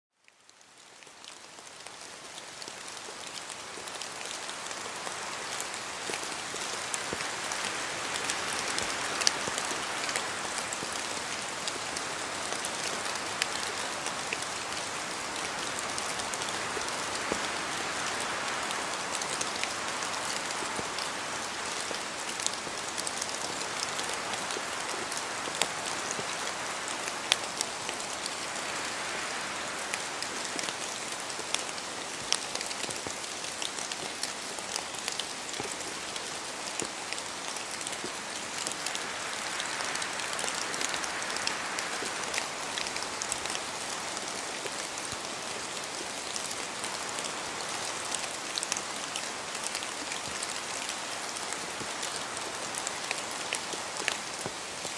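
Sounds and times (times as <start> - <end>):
rain falling in forest: 0.1 - 54.9.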